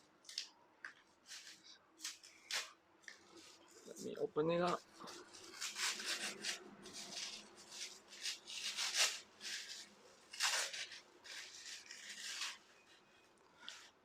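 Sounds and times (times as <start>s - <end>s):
packaging rustling and scraping: 1.2s - 14.0s.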